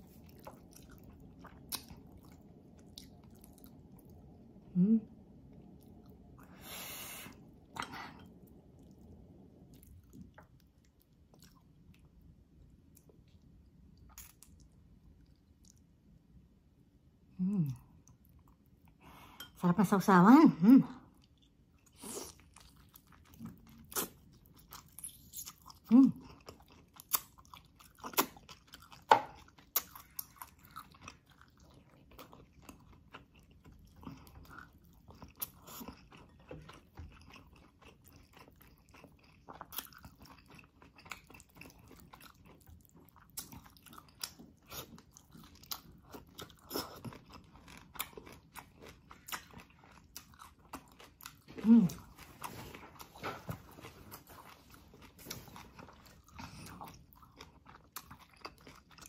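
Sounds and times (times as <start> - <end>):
chewing and mouth smacks: 0.0 - 4.2, 7.6 - 16.0, 21.2 - 59.0.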